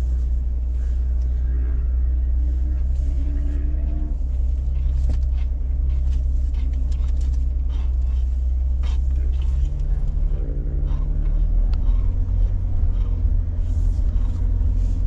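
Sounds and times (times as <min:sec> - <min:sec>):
car engine pulling at low revs: 0:00.0 - 0:15.0.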